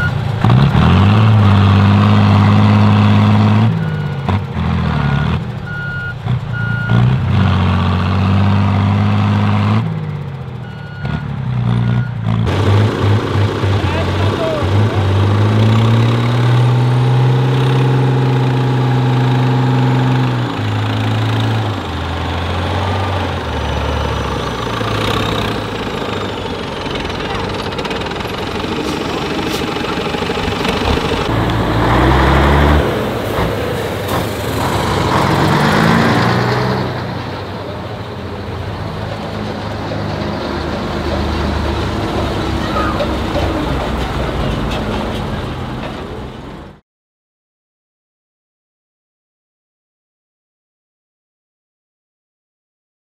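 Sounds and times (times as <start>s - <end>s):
diesel truck engine revving: 0.0s - 46.8s.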